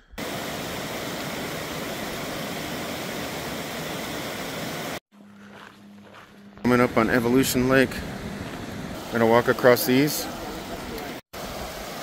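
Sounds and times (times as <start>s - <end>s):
rushing running water: 0.2s - 5.0s, 6.7s - 12.0s.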